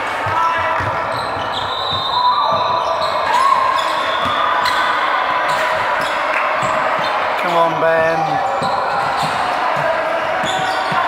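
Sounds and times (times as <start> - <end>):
echoing crowd in large hall: 0.0 - 11.0.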